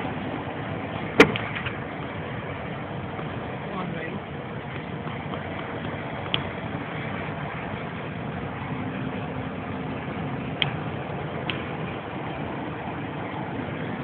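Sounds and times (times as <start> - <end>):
vehicle on dirt road: 0.0 - 14.0.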